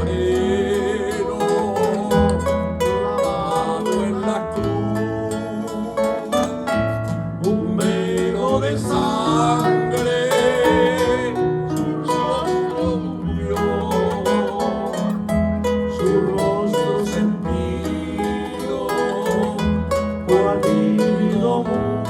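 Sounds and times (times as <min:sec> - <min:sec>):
plucked string instruments playing: 0:00.0 - 0:22.0.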